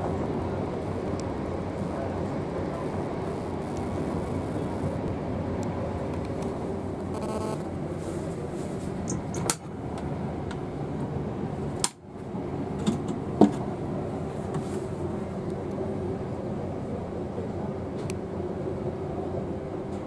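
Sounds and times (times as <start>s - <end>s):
train running rumble and hiss: 0.0s - 20.0s.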